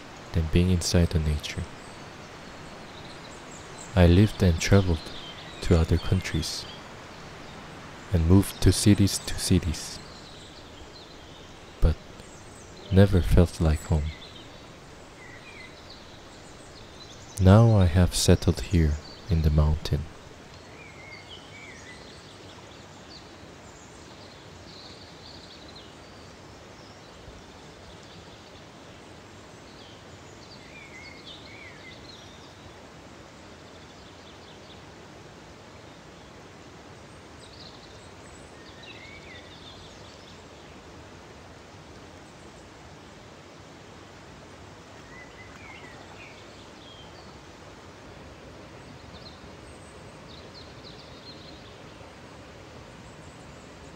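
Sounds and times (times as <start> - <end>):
mountain stream rushing: 0.0 - 53.9.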